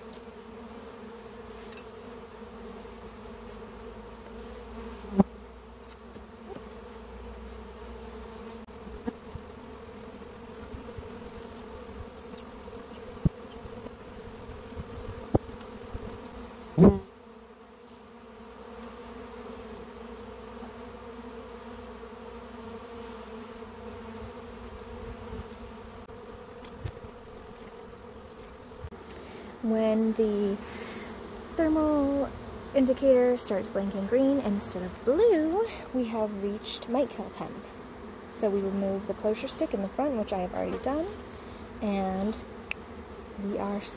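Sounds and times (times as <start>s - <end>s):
bees buzzing: 0.0s - 43.9s.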